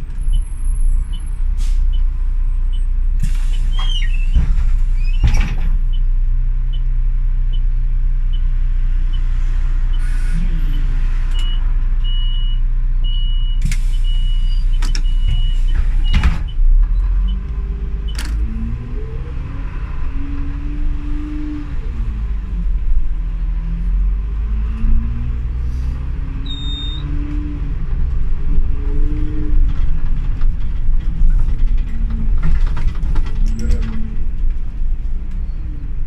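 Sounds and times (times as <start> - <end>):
bus engine hum: 0.0 - 36.0.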